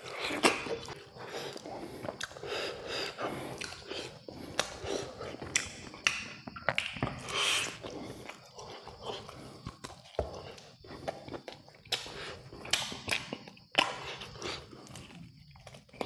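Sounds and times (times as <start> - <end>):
person chewing with crunches: 0.0 - 16.0.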